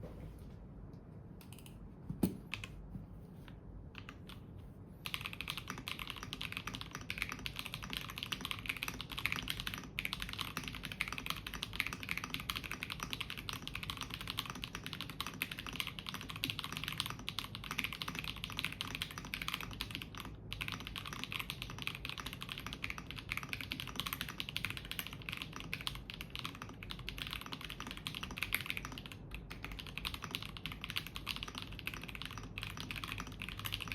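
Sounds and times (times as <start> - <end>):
mechanical keyboard typing: 5.0 - 33.9.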